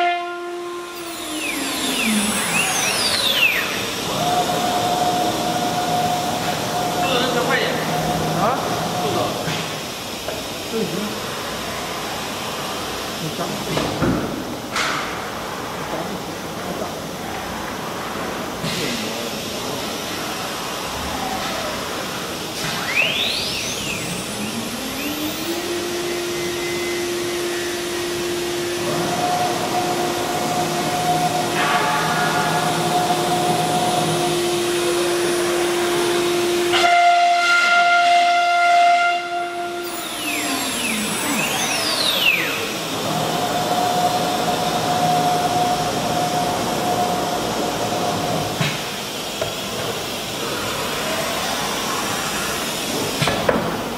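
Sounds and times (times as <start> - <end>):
cnc router whine over hiss: 0.0 - 53.9.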